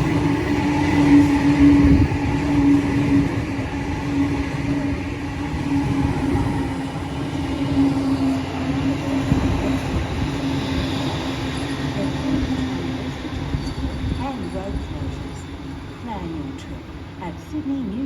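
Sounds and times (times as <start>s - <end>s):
electric train humming: 0.0s - 18.0s.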